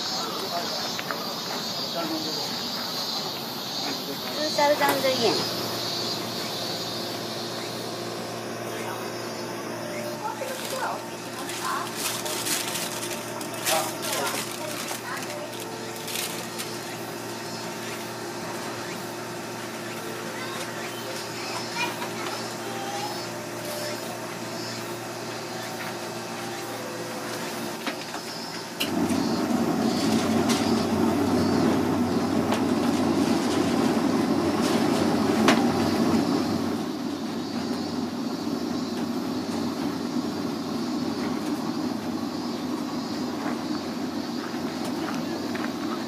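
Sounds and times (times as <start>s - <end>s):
ice cream machine humming: 0.0s - 46.0s.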